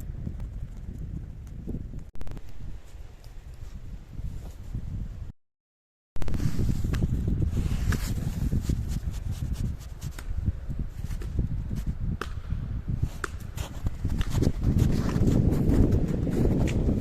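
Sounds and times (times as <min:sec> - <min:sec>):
wind rumble on microphone: 0:00.0 - 0:05.3, 0:06.2 - 0:17.0.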